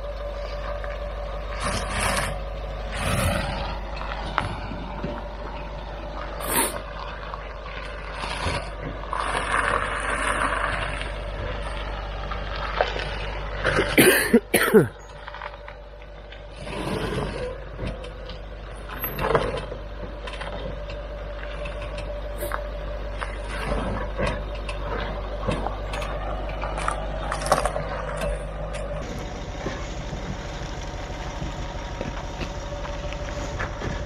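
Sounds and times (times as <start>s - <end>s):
diesel engine running slowly: 0.0s - 34.0s.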